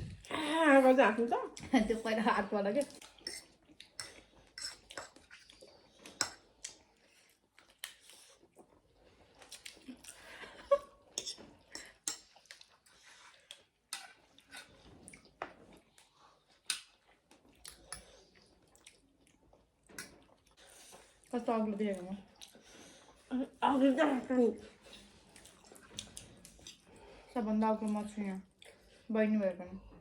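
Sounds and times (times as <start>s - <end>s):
people chewing: 0.0s - 0.6s, 1.5s - 29.1s.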